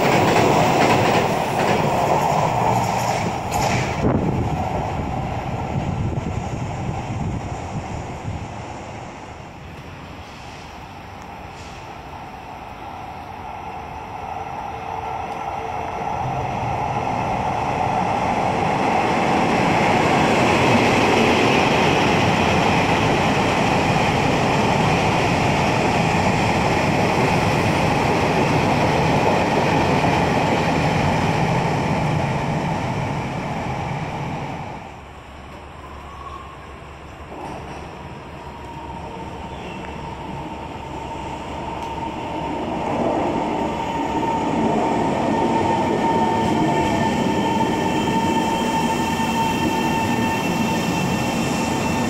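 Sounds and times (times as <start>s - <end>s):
train passing: 0.0s - 52.0s.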